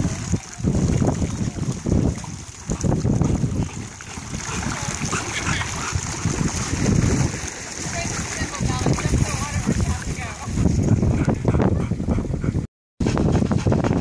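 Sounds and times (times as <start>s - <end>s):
dog wading through water: 0.0s - 11.4s
wind buffeting microphone: 0.0s - 14.0s.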